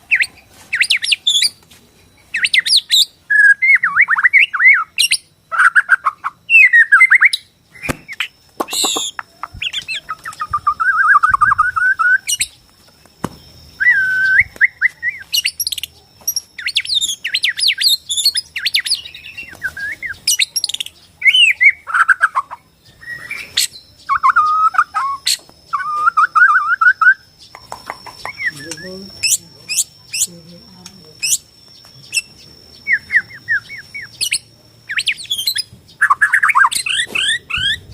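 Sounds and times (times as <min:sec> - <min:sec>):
bird singing whistles and trills: 0:00.0 - 0:01.6, 0:02.2 - 0:37.9.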